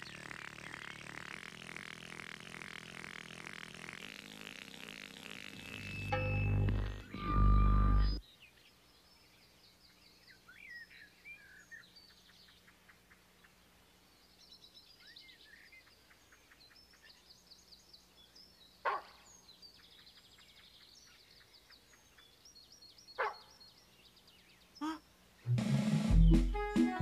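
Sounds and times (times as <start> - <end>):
songbird chirps and trills: 0.0 - 26.6.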